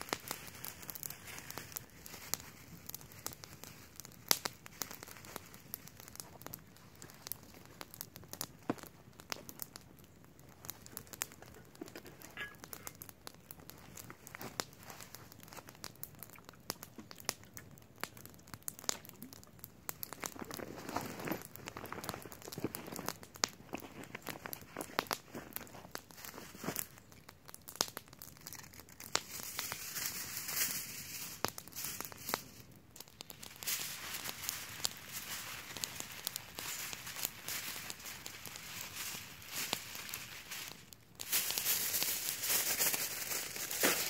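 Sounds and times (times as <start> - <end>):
aluminium foil crinkling: 0.0 - 44.0.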